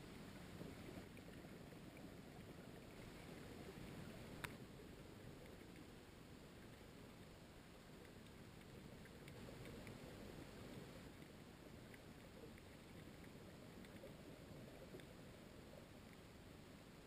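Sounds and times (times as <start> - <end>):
low underwater rumble: 0.0 - 16.5.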